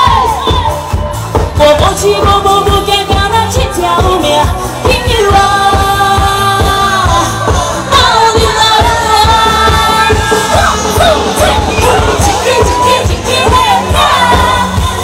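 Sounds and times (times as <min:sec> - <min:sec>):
amplified pop backing music: 0:00.0 - 0:15.0
woman singing into a microphone: 0:00.0 - 0:15.0.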